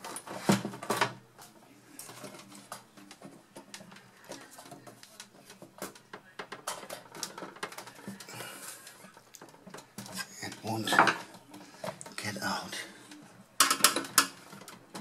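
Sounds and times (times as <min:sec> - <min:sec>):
plastic parts clicking and scraping: 0:00.0 - 0:15.0.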